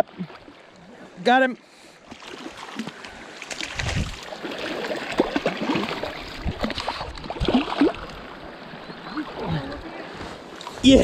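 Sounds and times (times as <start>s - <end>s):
creek water gurgling and splashing: 0.0s - 11.0s.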